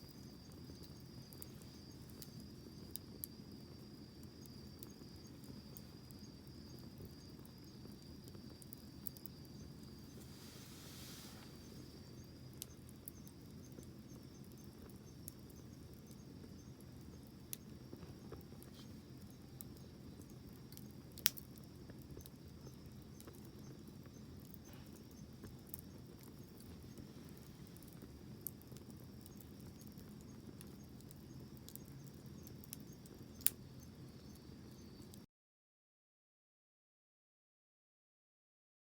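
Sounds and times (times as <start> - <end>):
high insect trill: 0.0 - 35.2
fire hissing: 0.1 - 35.0
campfire crackling and popping: 0.1 - 35.2.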